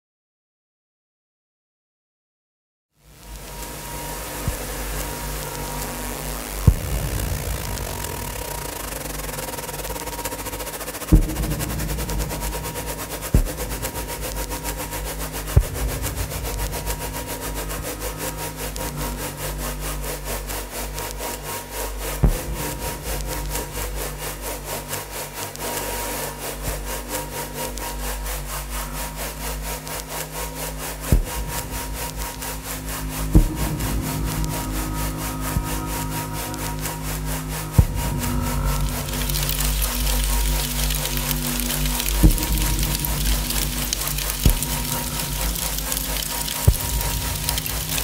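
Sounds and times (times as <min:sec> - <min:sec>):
low electronic drones: 0:03.0 - 0:48.0.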